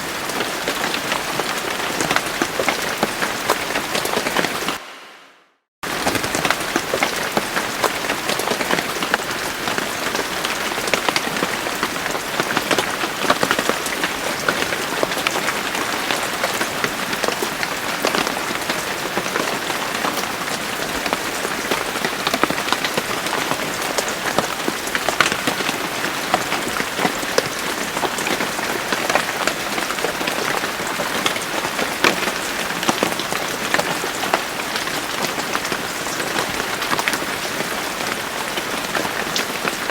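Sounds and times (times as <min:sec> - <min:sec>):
steady rain patter: 0:00.0 - 0:04.8, 0:05.8 - 0:39.9.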